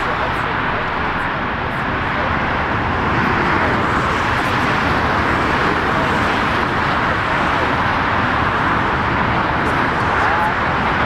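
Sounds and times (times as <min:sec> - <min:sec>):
jet engines idling roar: 0:00.0 - 0:11.0.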